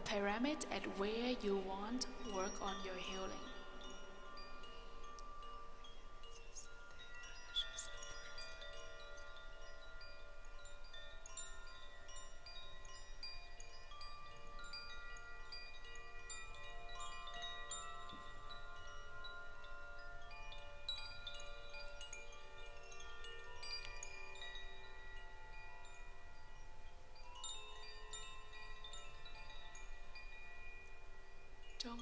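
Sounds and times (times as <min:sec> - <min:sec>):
wind chimes ringing: 0:00.0 - 0:32.0.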